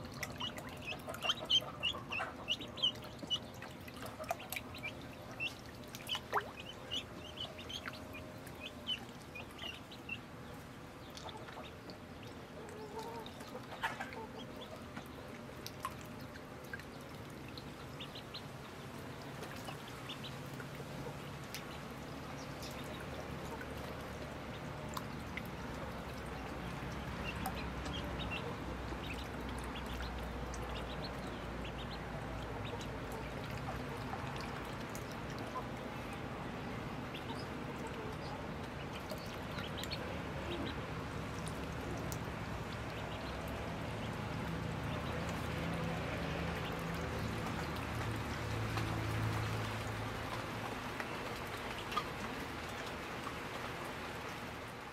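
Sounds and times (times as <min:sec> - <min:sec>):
ducklings peeping: 0:00.0 - 0:47.9, 0:51.0 - 0:52.9
small water splashes: 0:00.0 - 0:54.9.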